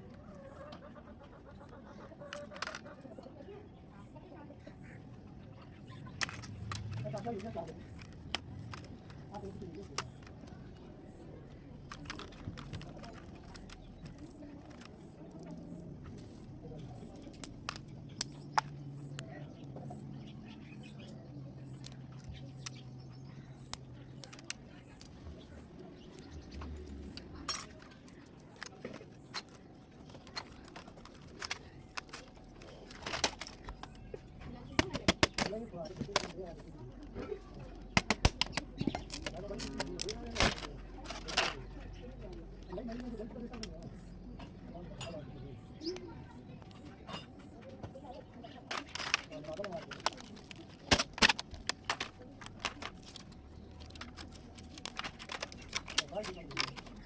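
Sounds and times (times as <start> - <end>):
laptop parts clicking and clacking: 2.2 - 3.2, 5.8 - 46.0, 46.6 - 57.0.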